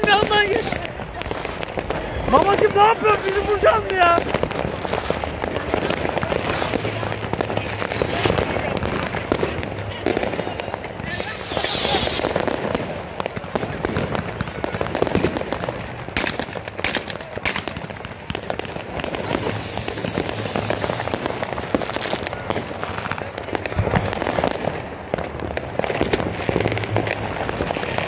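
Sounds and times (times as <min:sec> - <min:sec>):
fireworks crackling and popping: 0:00.0 - 0:28.0
loud firework bangs: 0:00.0 - 0:28.0.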